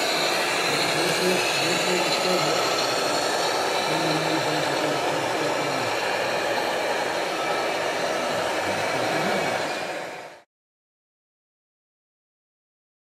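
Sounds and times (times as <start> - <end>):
model truck whirring hiss: 0.0 - 10.4.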